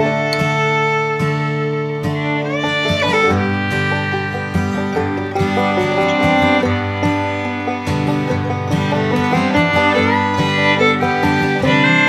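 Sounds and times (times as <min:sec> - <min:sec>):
plucked string music: 0:00.0 - 0:12.0.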